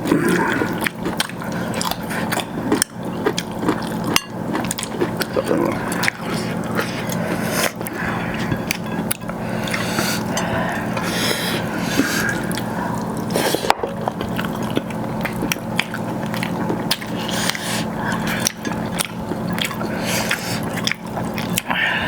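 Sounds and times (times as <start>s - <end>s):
low steady hum: 0.0s - 22.0s
wet eating sounds: 0.0s - 22.0s.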